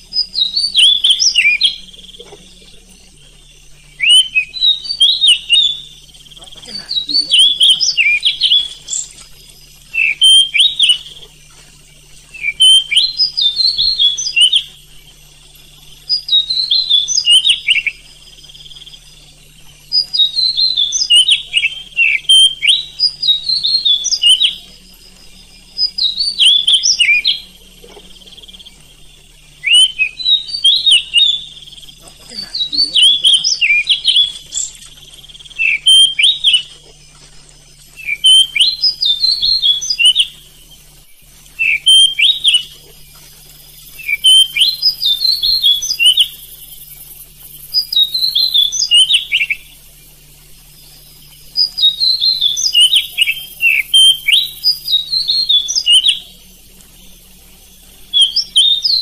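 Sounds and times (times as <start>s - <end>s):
bird singing whistled phrases: 0.0s - 11.3s, 12.3s - 37.0s, 37.9s - 49.9s, 50.5s - 59.0s
faint low hum: 0.0s - 59.0s.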